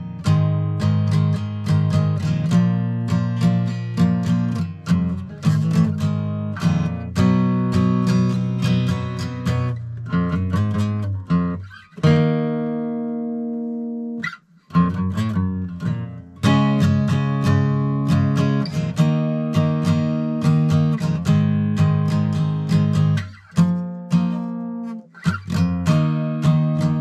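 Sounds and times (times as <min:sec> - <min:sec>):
guitar picking and strumming: 0:00.0 - 0:27.0.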